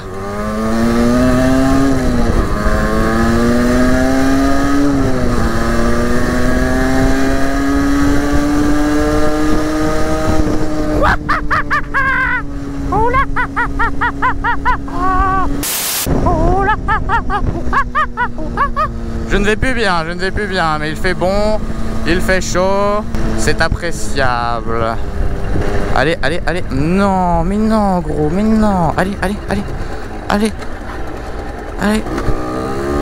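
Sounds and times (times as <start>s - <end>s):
motorcycle engine pulling away: 0.0s - 15.6s, 16.9s - 26.8s, 27.4s - 33.0s.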